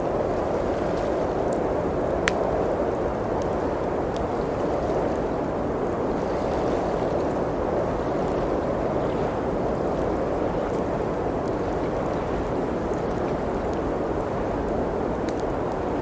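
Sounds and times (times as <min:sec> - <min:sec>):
blizzard wind rushing: 0:00.0 - 0:16.0
wood fire crackling: 0:00.0 - 0:16.0.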